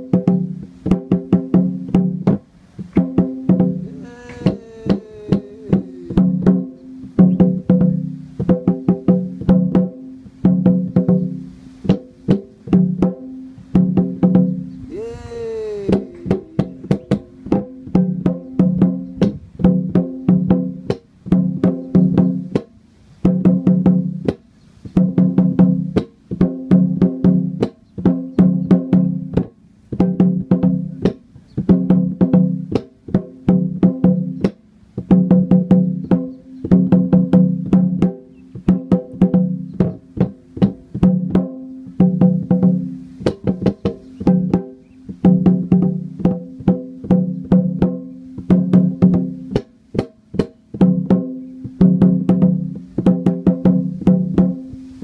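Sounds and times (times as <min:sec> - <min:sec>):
wooden drum beaten with stick: 0:00.0 - 0:15.2, 0:15.8 - 0:22.7, 0:25.0 - 0:54.8.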